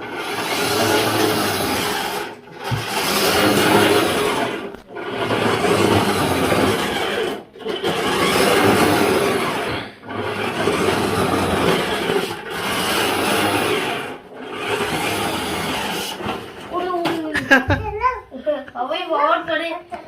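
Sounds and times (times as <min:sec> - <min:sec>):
toy car grinding whirr: 0:00.0 - 0:17.3.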